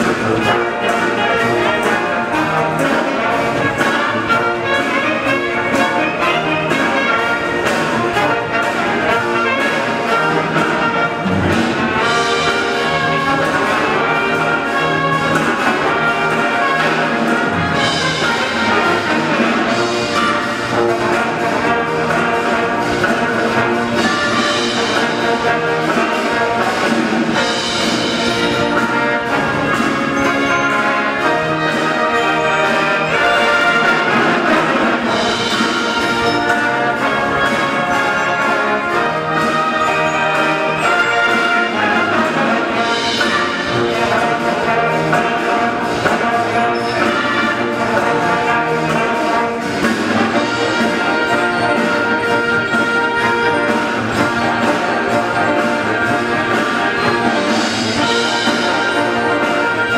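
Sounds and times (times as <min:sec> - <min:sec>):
military brass band playing: 0:00.0 - 0:59.9.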